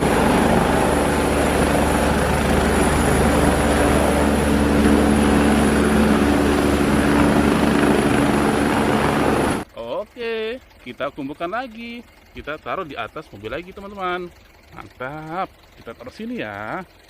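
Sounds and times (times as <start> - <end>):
helicopter rotor and engine: 0.0 - 17.0.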